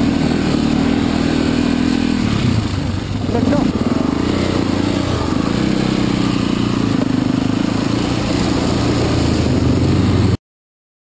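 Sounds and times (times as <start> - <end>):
dirt bike engine running: 0.0 - 10.4
rushing noise: 0.0 - 10.4.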